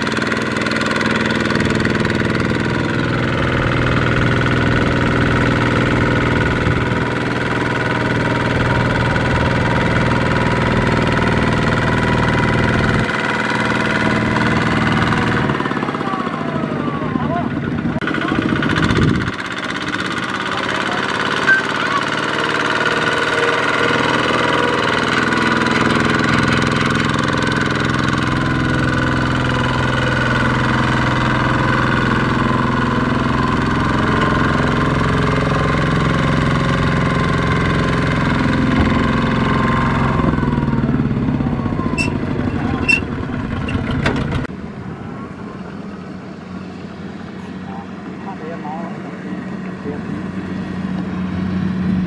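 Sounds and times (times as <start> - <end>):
diesel tiller engine knocking: 0.0 - 44.5.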